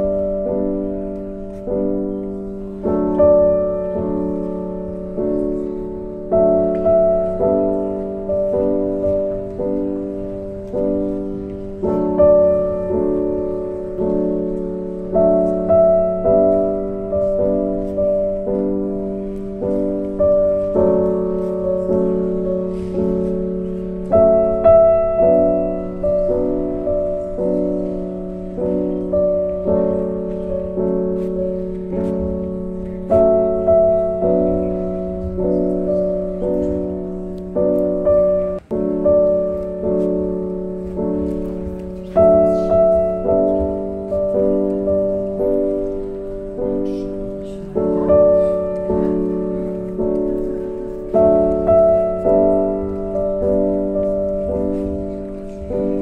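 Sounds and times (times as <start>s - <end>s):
slow piano chords: 0.0s - 56.0s.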